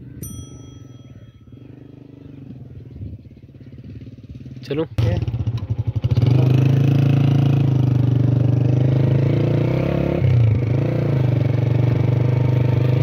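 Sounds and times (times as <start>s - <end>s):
motorcycle engine riding off: 1.4s - 13.0s.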